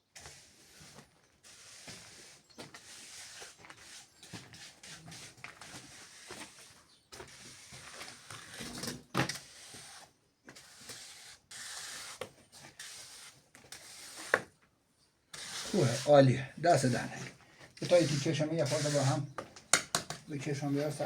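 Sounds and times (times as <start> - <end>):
tool scraping wet cement: 0.2 - 14.5, 15.3 - 19.4.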